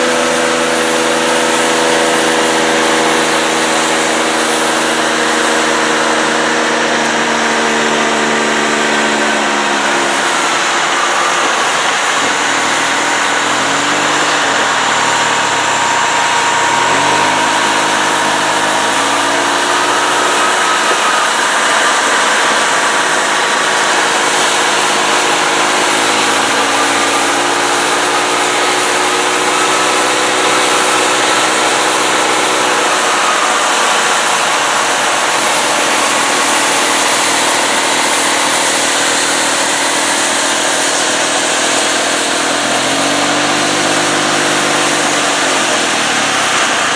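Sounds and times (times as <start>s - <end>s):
combine diesel engines under load: 0.0s - 46.9s
threshing machinery rushing: 0.0s - 46.9s.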